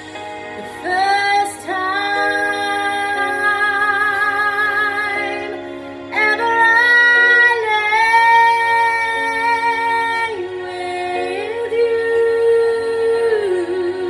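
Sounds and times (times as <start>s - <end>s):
woman singing a slow ballad: 0.0s - 14.0s.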